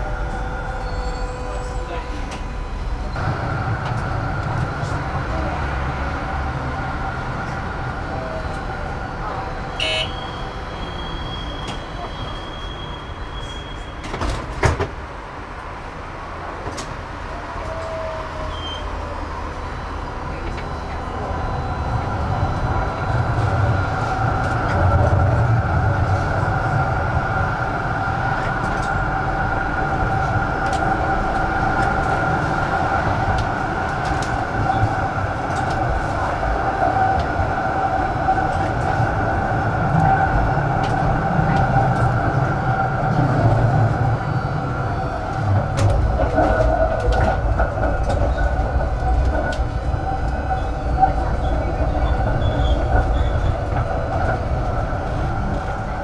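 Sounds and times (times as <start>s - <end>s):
tram motor whine: 0.0s - 14.4s, 16.4s - 56.0s
wheels rumbling on rails: 0.0s - 56.0s.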